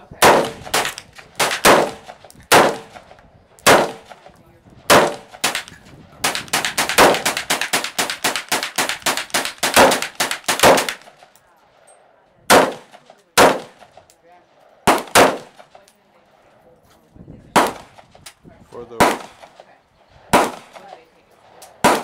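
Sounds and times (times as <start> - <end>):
rifle shots with ringing echo: 0.1 - 16.4, 17.5 - 18.3, 18.9 - 22.0.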